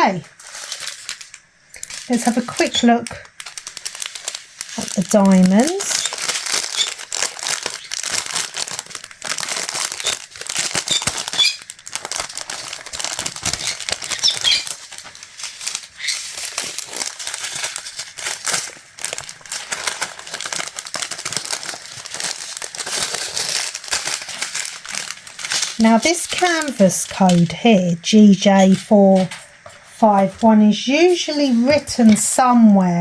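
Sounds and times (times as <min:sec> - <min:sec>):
plastic baggies crinkling: 0:00.0 - 0:33.0.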